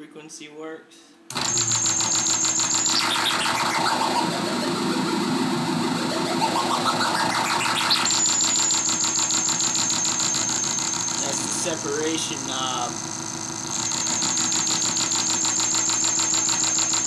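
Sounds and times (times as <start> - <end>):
high synth whine: 1.3 - 17.0
low synth drone: 1.3 - 17.0
pulsing glitchy synth noise: 1.3 - 17.0.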